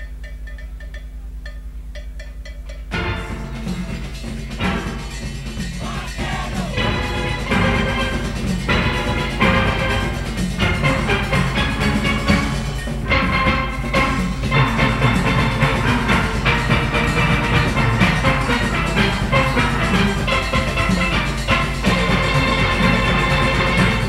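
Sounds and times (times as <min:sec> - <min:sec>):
drums and percussion: 0:00.0 - 0:24.0
steel orchestra playing calypso: 0:00.0 - 0:24.0.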